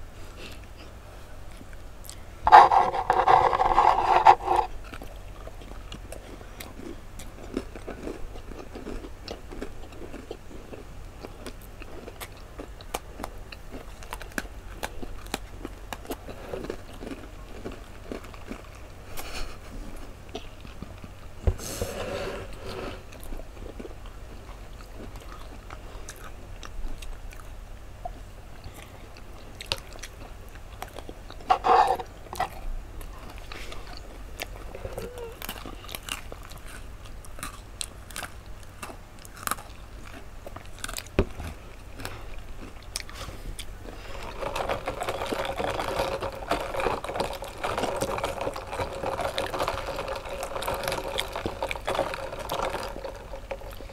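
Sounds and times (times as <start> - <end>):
cookies crunching and chewing: 0.0 - 53.9.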